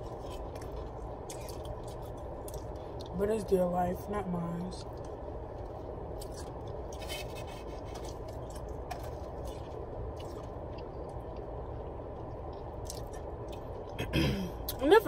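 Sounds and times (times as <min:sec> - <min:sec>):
person chewing and crunching: 0:00.0 - 0:03.2, 0:04.8 - 0:14.8
low hum inside a car: 0:00.0 - 0:15.0.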